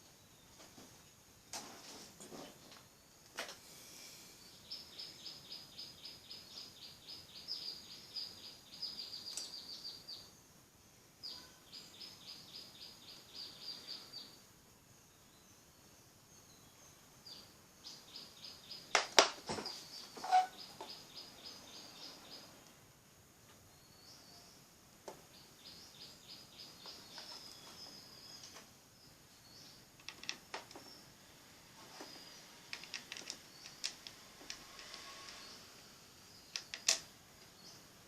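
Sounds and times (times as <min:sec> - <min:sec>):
bird chirping: 0:04.0 - 0:22.8, 0:23.5 - 0:31.2, 0:31.8 - 0:38.0.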